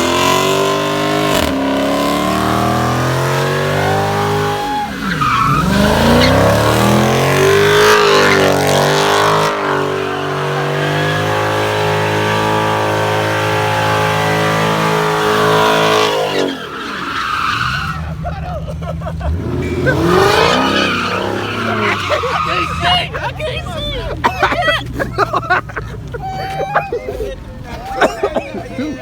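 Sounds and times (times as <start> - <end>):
car engine revving high: 0.0 - 26.2
tyres squealing: 0.8 - 29.0.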